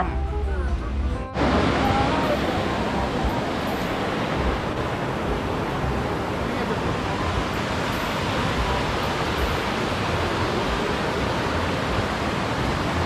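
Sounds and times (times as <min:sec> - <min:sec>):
waterfall stream rushing: 0:01.4 - 0:13.0.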